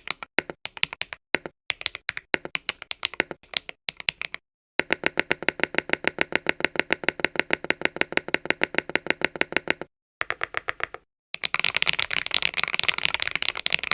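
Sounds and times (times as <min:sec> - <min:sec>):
fast typing on keyboard: 0:00.0 - 0:13.9.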